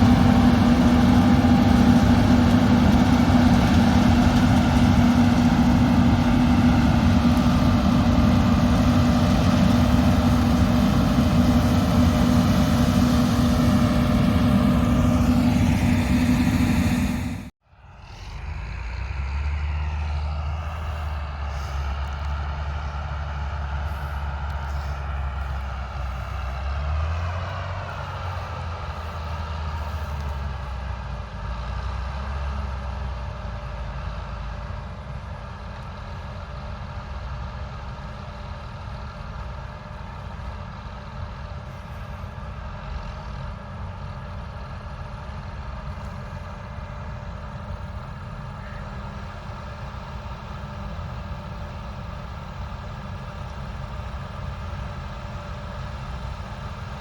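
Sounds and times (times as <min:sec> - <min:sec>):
diesel machinery deep rumble: 0:00.0 - 0:57.0.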